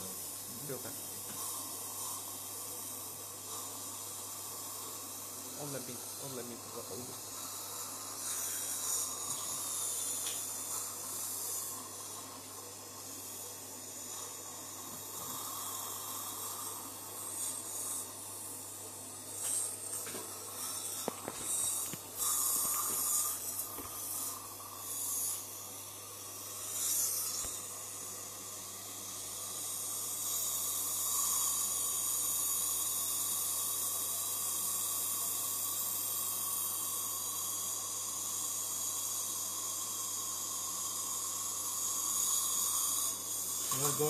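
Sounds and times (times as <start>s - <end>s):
dental suction hissing: 0.0s - 44.0s.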